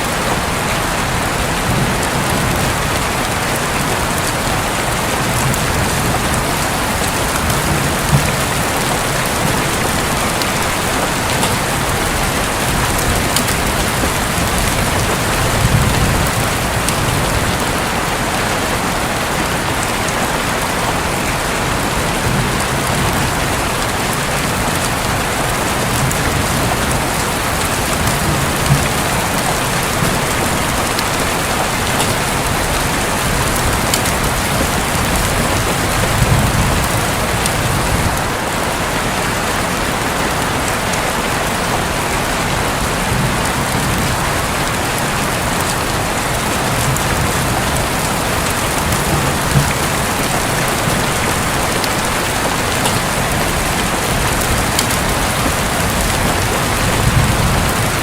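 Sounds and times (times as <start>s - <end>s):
heavy rain on a roof: 0.0s - 58.0s
low rumbles of thunder: 1.4s - 18.5s, 21.1s - 38.4s, 45.6s - 58.0s.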